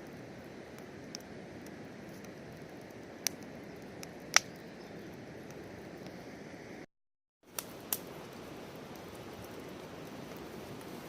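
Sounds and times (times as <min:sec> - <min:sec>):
wood fire crackling and popping: 0:00.0 - 0:06.2, 0:07.4 - 0:11.0.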